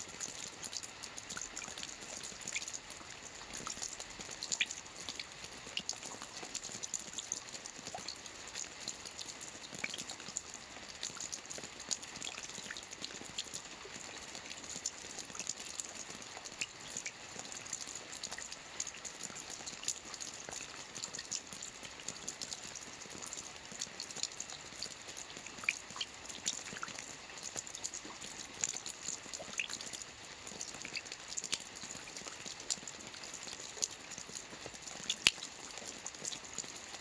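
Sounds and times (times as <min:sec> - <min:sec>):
rain on a roof: 0:00.0 - 0:37.0.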